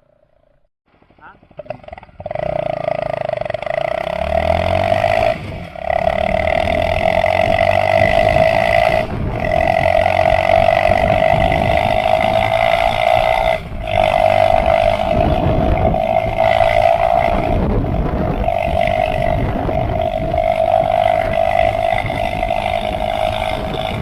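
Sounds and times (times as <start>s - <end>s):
motorcycle engine running hard: 0.9s - 24.0s.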